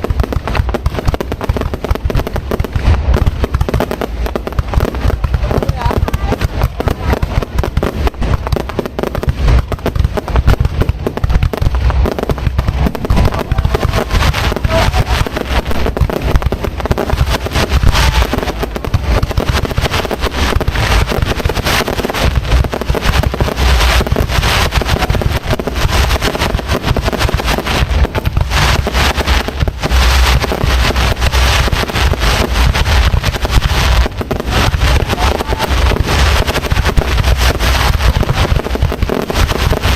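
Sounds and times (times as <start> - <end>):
crackling fireworks: 0.0 - 39.9
fireworks bursting: 0.0 - 39.9
low rumble: 2.2 - 39.0.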